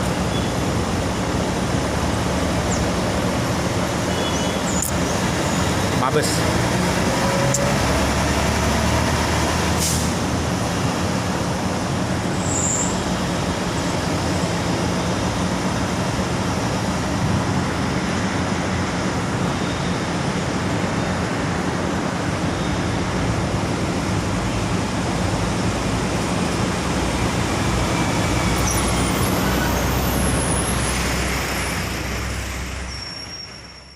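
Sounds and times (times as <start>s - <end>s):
bus diesel engine running: 0.0s - 33.9s
traffic: 0.0s - 33.9s.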